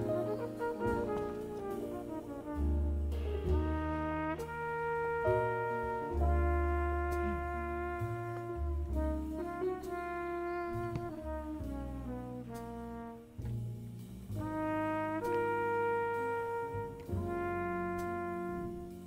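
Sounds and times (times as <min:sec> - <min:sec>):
brass instruments playing chords: 0:00.0 - 0:19.0.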